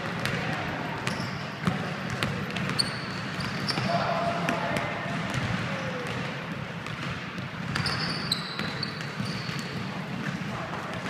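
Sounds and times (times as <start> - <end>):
basketball bouncing: 0.0 - 11.0
sneakers squeaking on court: 0.0 - 11.0.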